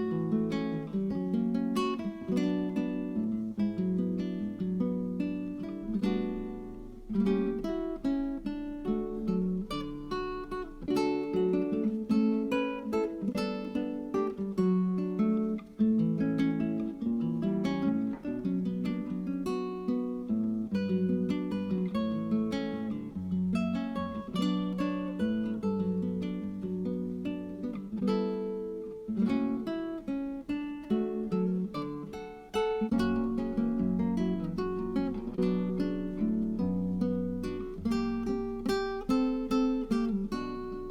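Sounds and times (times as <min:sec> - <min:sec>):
acoustic guitar picking: 0:00.0 - 0:40.9.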